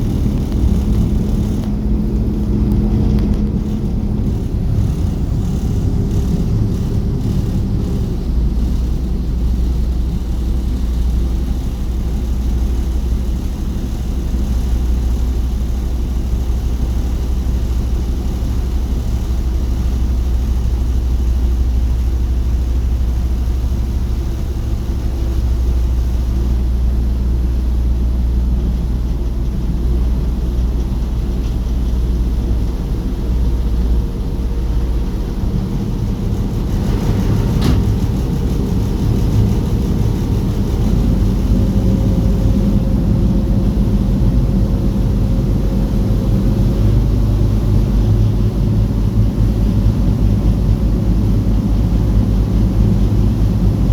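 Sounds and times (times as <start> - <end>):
water against hull: 0.0 - 18.4, 22.5 - 53.9
ship engine droning: 0.0 - 53.9.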